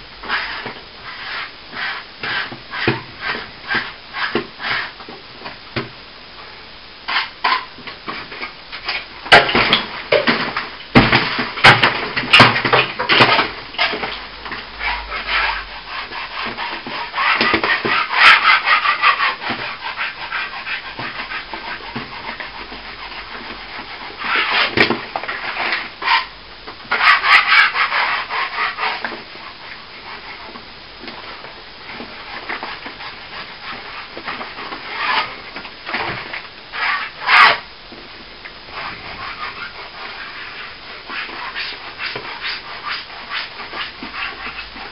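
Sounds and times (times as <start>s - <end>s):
hand tool scraping plaster: 0.2s - 5.0s, 7.1s - 30.6s, 31.8s - 37.7s, 38.7s - 44.9s.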